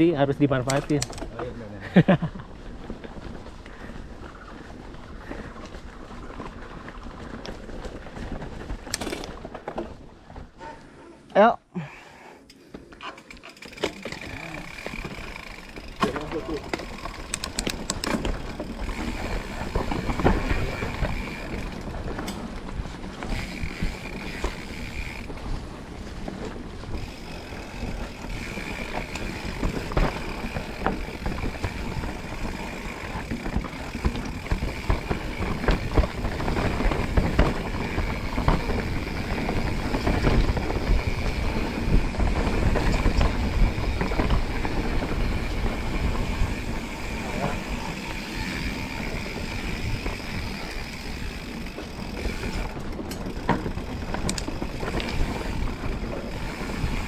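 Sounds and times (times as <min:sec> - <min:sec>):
bike rattling and knocking: 0:00.0 - 0:10.9, 0:12.7 - 0:57.0
bike tyres on rough ground: 0:00.0 - 0:57.0.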